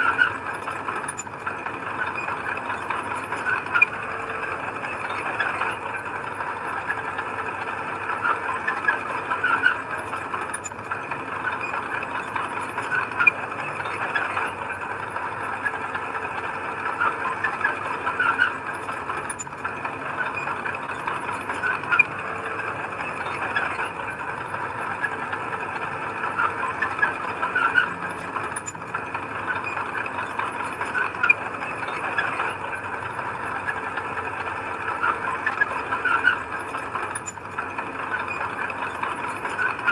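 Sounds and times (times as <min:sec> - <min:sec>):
diesel engine of earthmover: 0:00.0 - 0:39.9.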